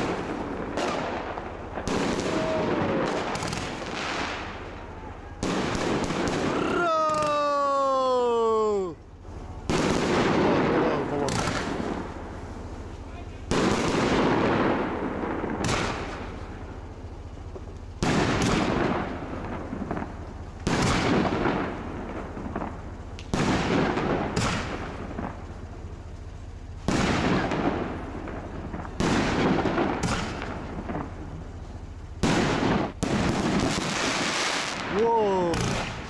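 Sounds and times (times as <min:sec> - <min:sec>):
fireworks bursting with loud bangs: 0:00.0 - 0:36.0
fireworks crackle: 0:00.0 - 0:36.0.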